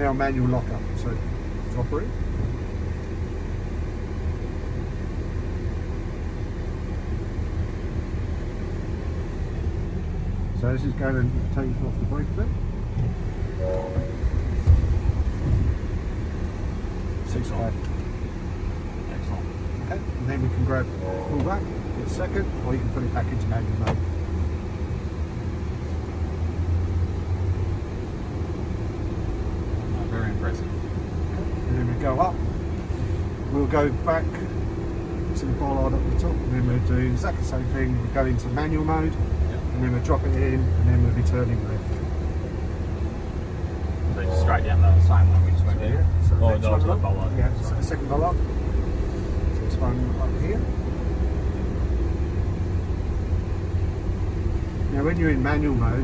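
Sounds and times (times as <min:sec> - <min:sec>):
vehicle engine low rumble: 0:00.0 - 0:56.0.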